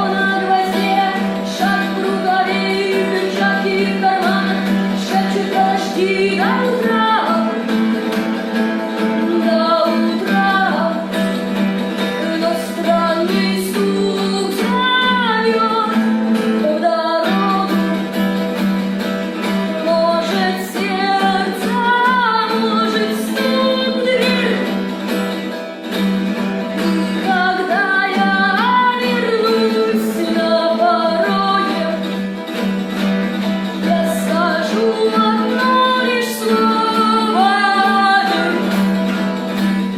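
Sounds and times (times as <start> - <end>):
person singing: 0.0 - 8.2, 8.9 - 11.4, 12.1 - 18.1, 19.5 - 25.0, 26.8 - 32.2, 33.7 - 39.2
plucked guitar: 0.0 - 39.9.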